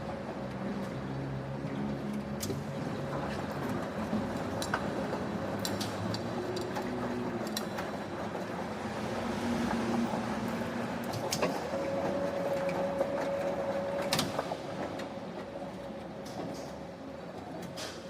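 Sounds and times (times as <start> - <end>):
factory machinery humming: 0.0 - 18.0.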